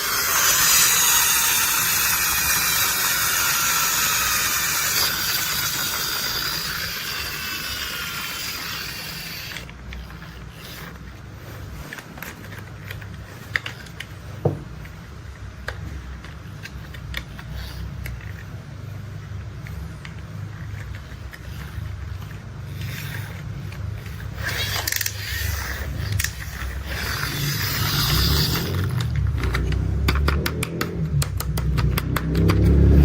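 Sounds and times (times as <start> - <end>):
sharp clicks and ratchet ticks: 0.0 - 11.1, 15.6 - 18.6, 19.6 - 33.0
mechanical hissing with gliding tones: 0.0 - 15.2, 15.8 - 29.8.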